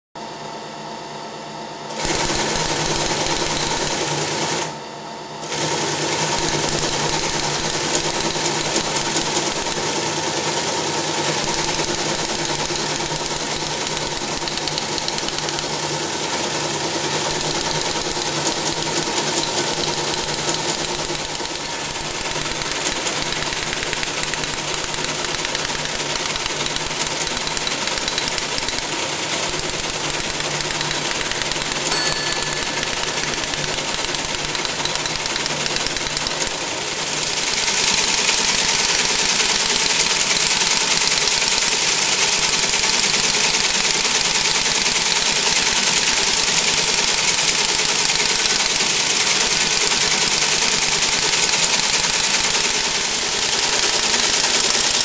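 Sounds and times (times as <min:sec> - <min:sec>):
printing mechanism clattering: 0:01.9 - 0:04.5, 0:05.4 - 0:55.0
printer motor humming: 0:01.9 - 0:04.8, 0:05.4 - 0:55.0.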